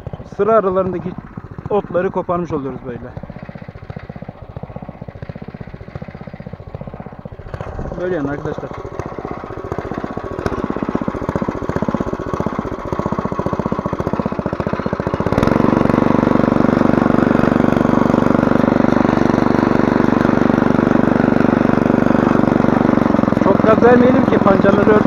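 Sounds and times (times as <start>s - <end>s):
tiller engine running: 0.0s - 25.0s.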